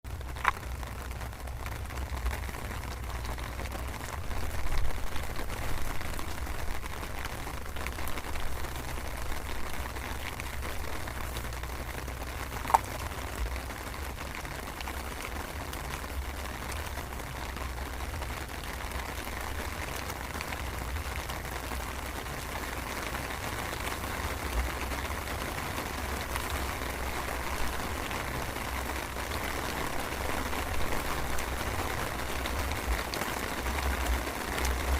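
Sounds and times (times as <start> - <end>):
light rain pattering: 0.0 - 34.9.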